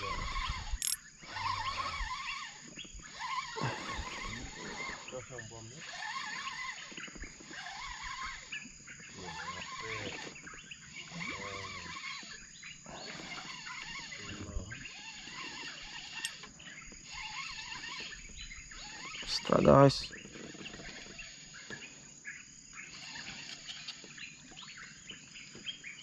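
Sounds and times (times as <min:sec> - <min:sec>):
birds chirping and trilling: 0:00.0 - 0:26.0
frogs calling: 0:00.0 - 0:26.0
insects calling: 0:00.0 - 0:26.0.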